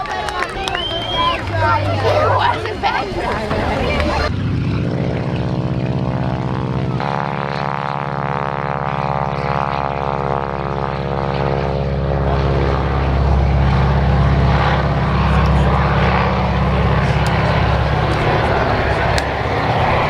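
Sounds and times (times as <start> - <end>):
propeller aircraft engine running: 0.0 - 20.0.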